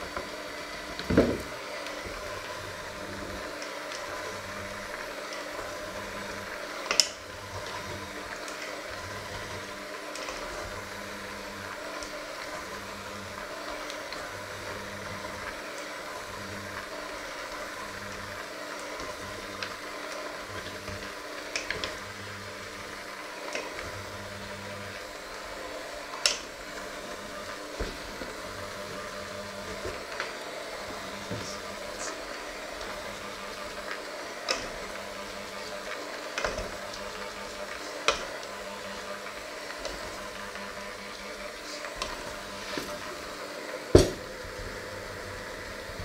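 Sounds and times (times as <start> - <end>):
electric hand mixer running: 0.0 - 46.0.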